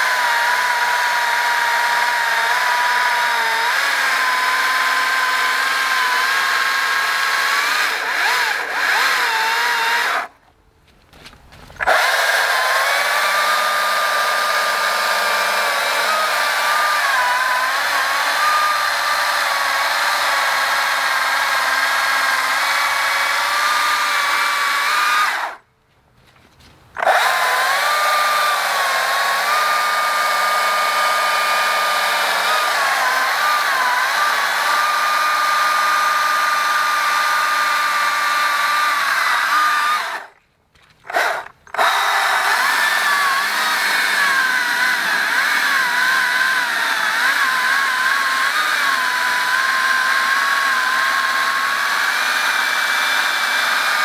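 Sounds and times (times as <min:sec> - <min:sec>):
electric chainsaw cutting log: 0:00.0 - 0:10.4, 0:11.8 - 0:25.6, 0:27.0 - 0:40.4, 0:41.0 - 0:54.0.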